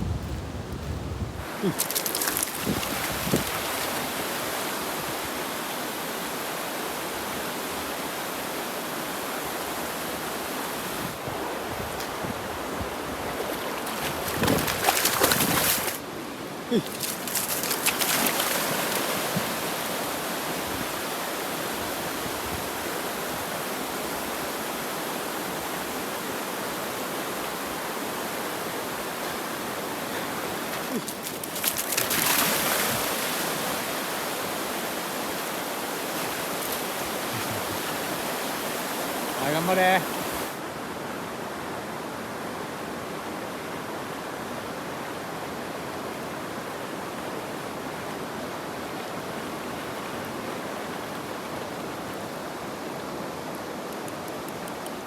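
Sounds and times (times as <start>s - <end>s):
mountain river rushing: 1.4s - 55.0s.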